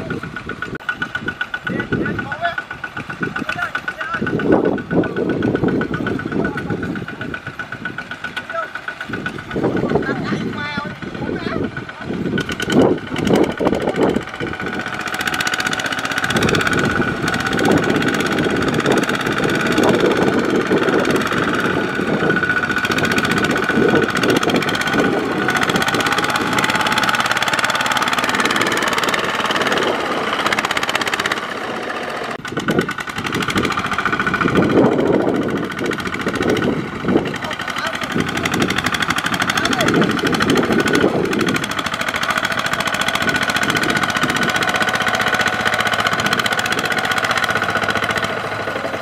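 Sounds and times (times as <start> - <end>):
diesel engine under load: 0.0 - 49.0
wheels churning mud: 0.0 - 49.0.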